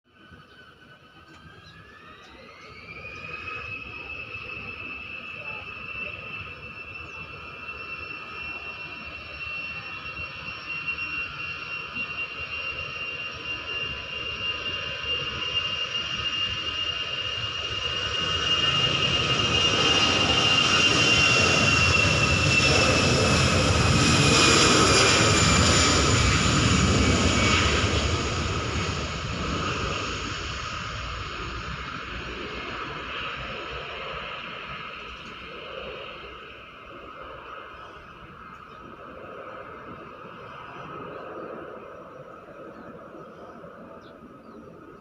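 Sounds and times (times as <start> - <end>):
jet engine roar with whine: 0.1 - 45.0.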